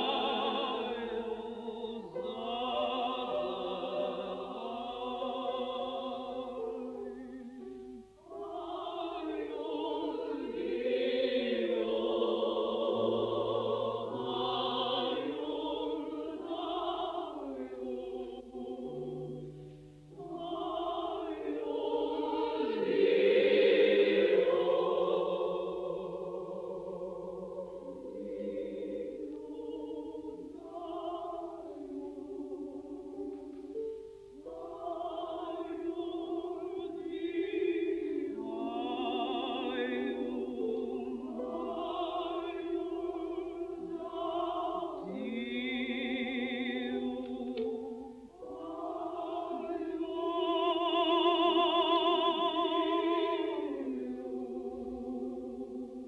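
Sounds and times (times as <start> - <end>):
women's choir singing: 0.0 - 56.0.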